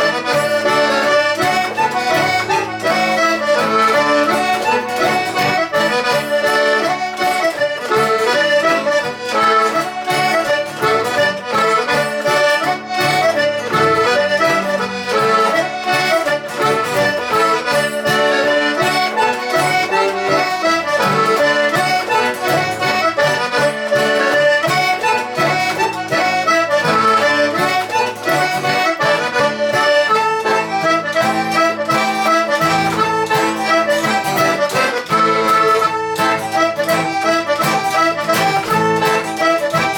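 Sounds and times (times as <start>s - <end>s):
accordion tune: 0.0s - 39.9s.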